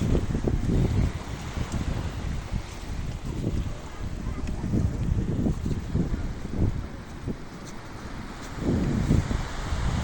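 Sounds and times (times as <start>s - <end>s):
ocean surf: 0.0s - 10.0s
wind gusting against microphone: 0.0s - 10.0s.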